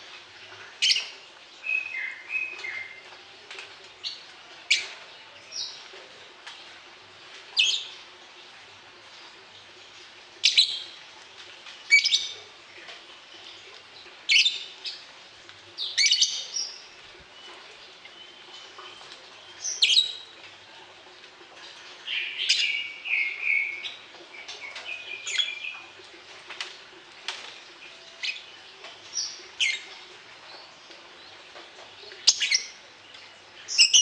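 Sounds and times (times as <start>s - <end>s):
cage birds chirping: 0.0s - 34.0s.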